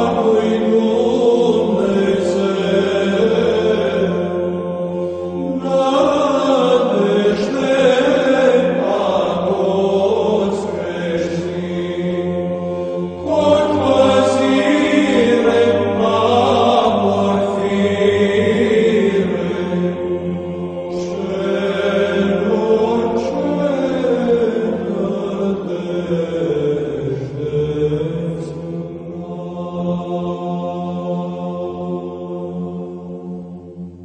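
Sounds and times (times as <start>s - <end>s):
voices chanting a slow melody: 0.0s - 34.0s.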